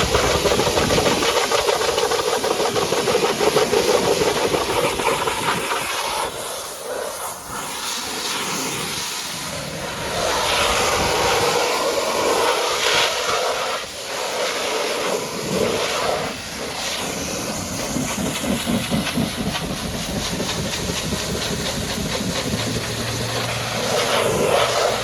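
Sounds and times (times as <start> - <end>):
pressure washer spraying: 0.0 - 25.0.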